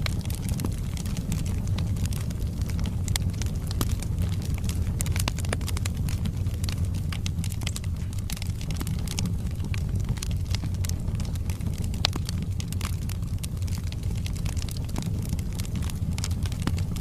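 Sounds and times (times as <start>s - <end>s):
burning logs crackling and popping: 0.0s - 17.0s
low rumble of flames: 0.0s - 17.0s.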